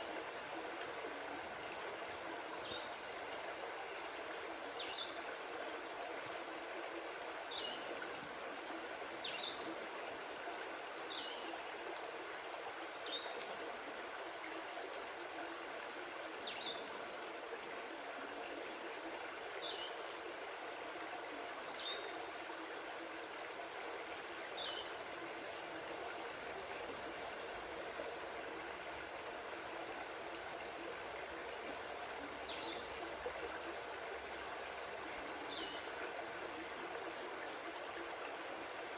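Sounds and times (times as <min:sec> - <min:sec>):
creek flowing over stones: 0:00.0 - 0:38.9.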